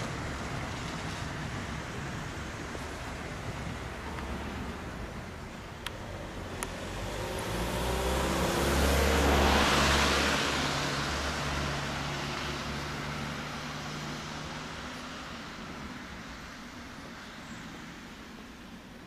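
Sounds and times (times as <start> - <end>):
van driving past: 0.0 - 18.1.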